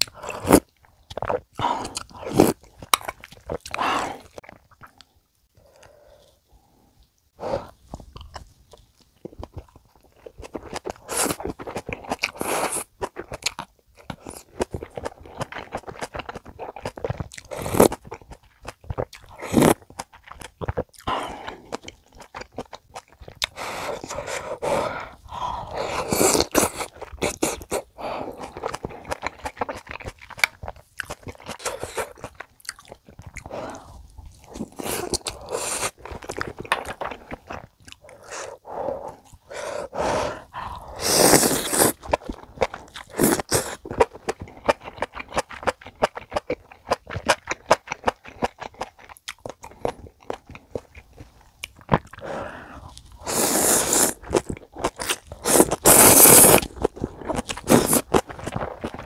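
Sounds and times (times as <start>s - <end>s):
soft wet chewing: 0.0s - 59.0s
crunchy chewing: 7.6s - 59.0s.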